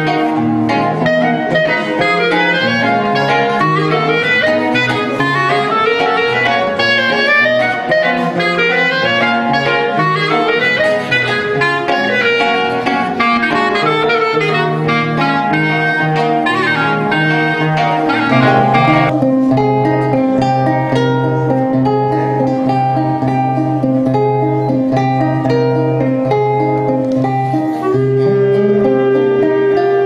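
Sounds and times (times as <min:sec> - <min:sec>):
clarinet melody: 0:00.0 - 0:30.0
plucked classical guitar: 0:00.0 - 0:30.0.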